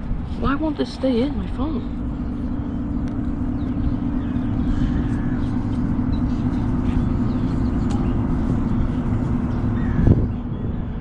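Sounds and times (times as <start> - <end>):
low mechanical hum: 0.0 - 11.0
low rumble: 0.0 - 11.0.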